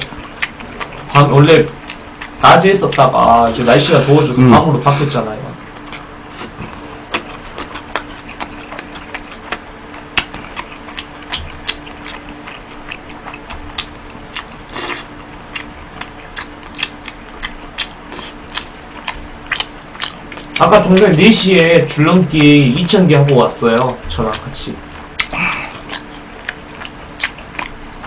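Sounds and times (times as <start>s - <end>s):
faint steady hum: 0.0s - 28.0s
man chewing food: 0.0s - 28.0s.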